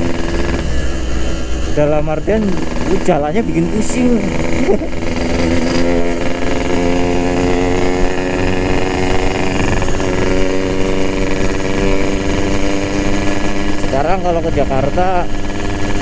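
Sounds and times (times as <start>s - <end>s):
two-stroke motorcycle engine cruising: 0.0s - 16.0s.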